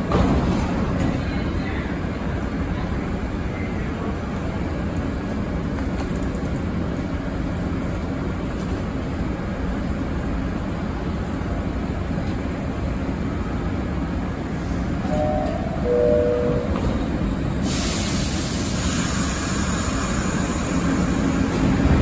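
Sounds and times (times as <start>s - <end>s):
subway train rumble and hum: 0.0s - 22.0s.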